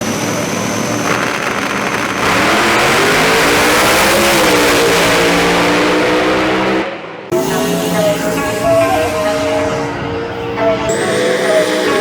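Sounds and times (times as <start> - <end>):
car engine revving hard: 1.0 - 12.0.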